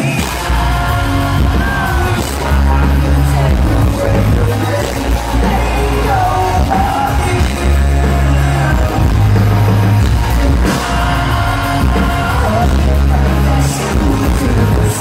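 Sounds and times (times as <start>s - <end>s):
drums: 0.0s - 15.0s
electric guitar: 0.0s - 15.0s
heavy bass line: 0.0s - 15.0s
keyboard: 0.0s - 15.0s
person singing: 0.0s - 15.0s.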